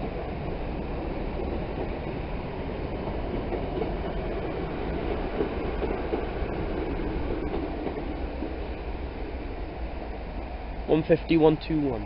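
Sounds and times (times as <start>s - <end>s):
diesel train rumbling: 0.0s - 12.0s
train wheels on track: 0.0s - 12.0s.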